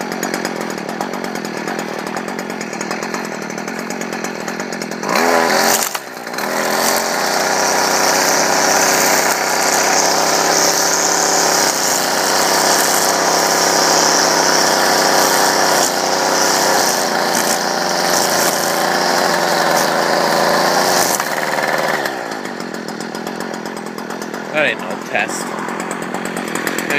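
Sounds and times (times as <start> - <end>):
string trimmer engine revving: 0.0 - 26.9.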